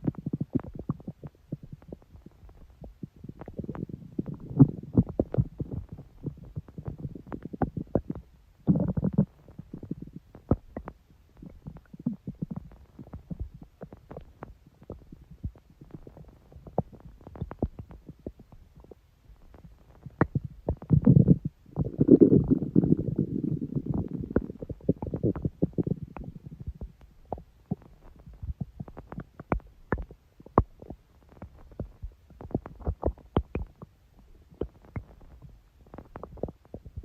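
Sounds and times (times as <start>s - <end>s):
stomach growling and gurgling: 0.0s - 37.0s.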